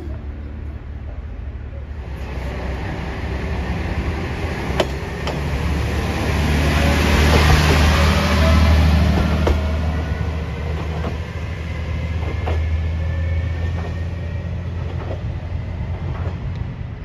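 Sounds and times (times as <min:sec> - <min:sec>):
train engine drone: 0:00.0 - 0:17.0
train rolling noise: 0:00.0 - 0:17.0.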